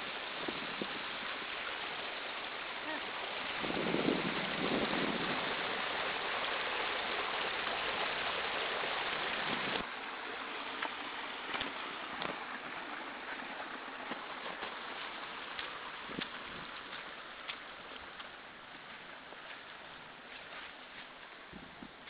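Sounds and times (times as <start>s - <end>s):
floodwater rushing over grass: 0.0s - 22.0s.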